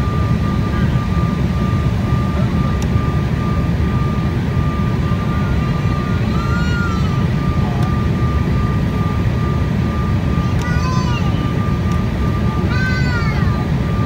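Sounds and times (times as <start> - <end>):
airliner cabin low rumble: 0.0 - 14.0
thin steady whine: 0.0 - 14.0.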